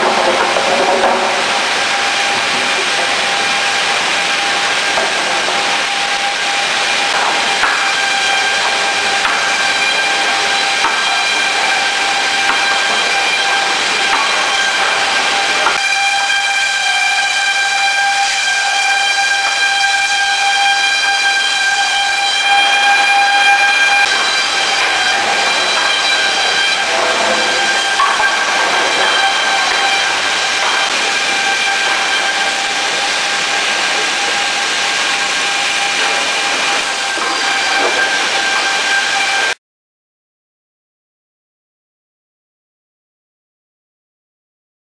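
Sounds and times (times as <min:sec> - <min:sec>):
wood planer whine: 0:00.0 - 0:39.6.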